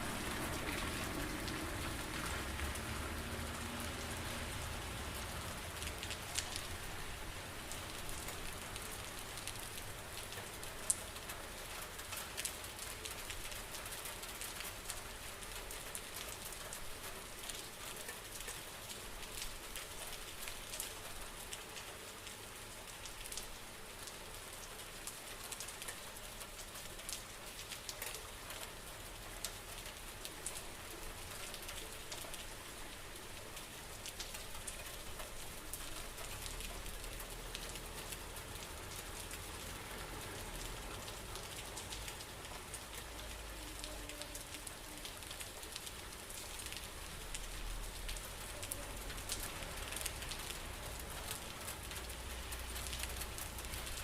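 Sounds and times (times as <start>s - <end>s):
steady rain falling: 0.0s - 54.0s
raindrops ticking: 0.1s - 7.0s, 7.6s - 54.0s.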